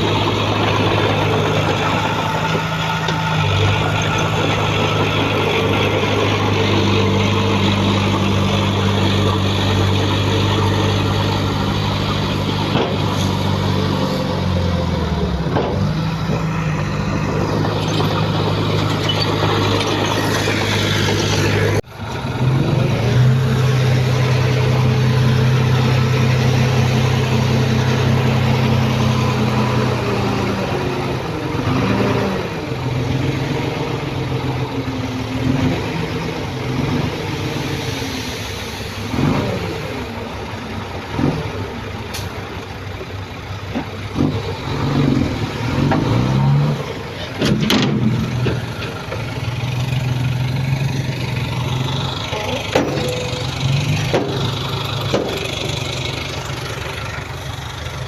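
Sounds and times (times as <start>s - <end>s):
heavy machinery diesel engine: 0.0s - 58.0s.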